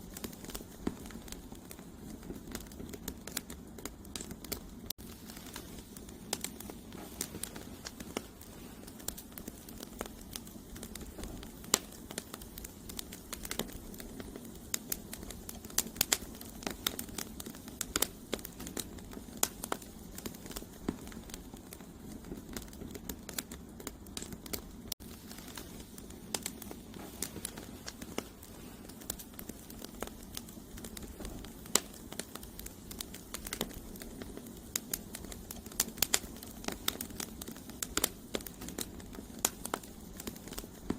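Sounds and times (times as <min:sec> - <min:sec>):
campfire crackling and popping: 0:00.0 - 0:40.9
low rush of flame: 0:00.0 - 0:40.9.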